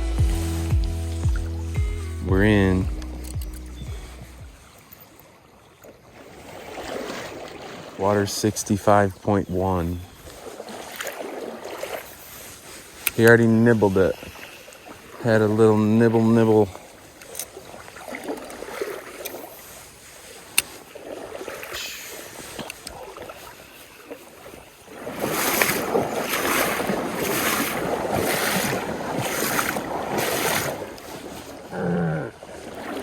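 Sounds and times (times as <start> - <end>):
flowing stream water: 0.0 - 33.0
legs wading through water: 0.0 - 33.0.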